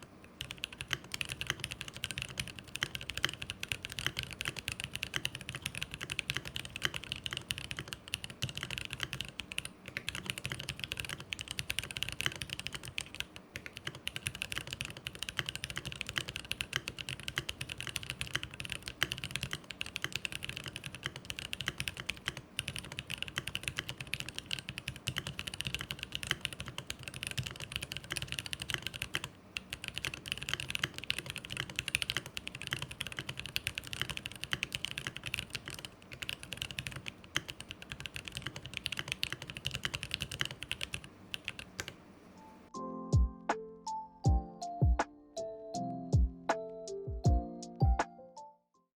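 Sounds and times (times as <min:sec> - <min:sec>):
mechanical keyboard typing: 0:00.0 - 0:42.0.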